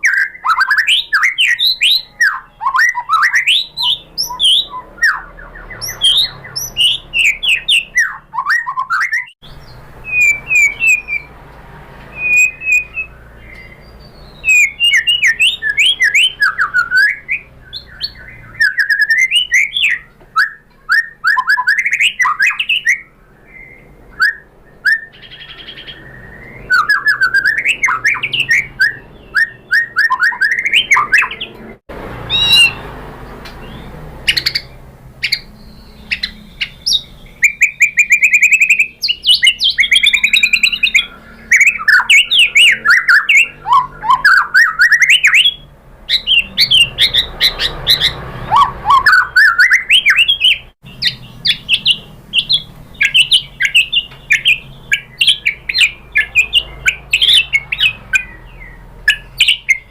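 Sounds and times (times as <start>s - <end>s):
songbird singing whistled phrases: 0.0s - 11.3s, 12.1s - 31.7s, 32.3s - 32.9s, 33.5s - 59.9s.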